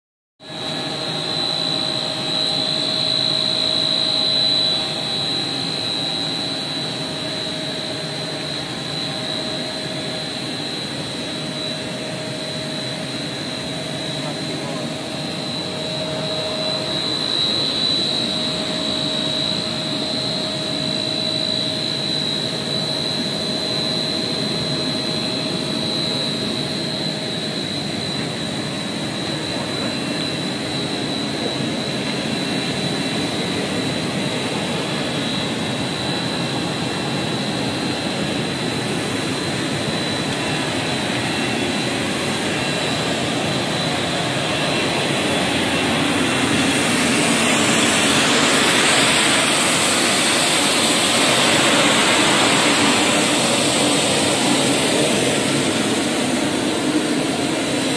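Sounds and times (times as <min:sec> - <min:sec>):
high machine whine: 0:00.4 - 0:57.9
machinery drone: 0:00.5 - 0:57.9.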